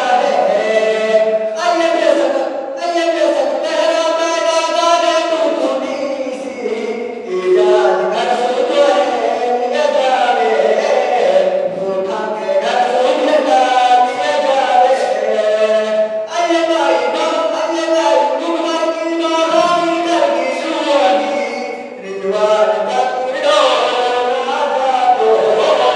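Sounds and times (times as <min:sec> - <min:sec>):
man singing into a microphone: 0:00.0 - 0:25.9.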